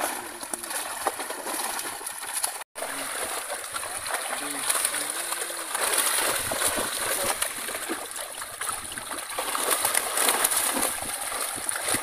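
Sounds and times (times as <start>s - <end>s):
fish thrashing in a net: 0.0s - 12.0s
water splashing: 0.0s - 12.0s.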